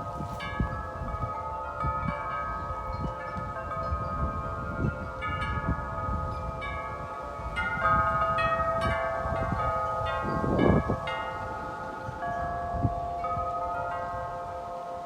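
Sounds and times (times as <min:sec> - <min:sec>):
wind chimes ringing: 0:00.0 - 0:15.0
wind rumbling on microphone: 0:00.0 - 0:15.0.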